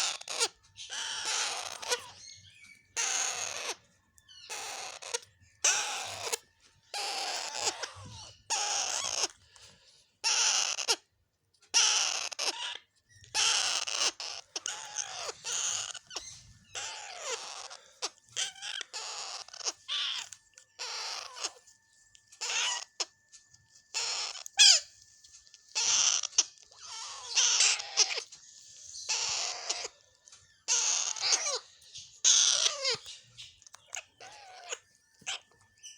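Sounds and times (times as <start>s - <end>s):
parakeets calling harshly: 0.0s - 21.7s, 22.3s - 23.2s, 23.8s - 35.9s.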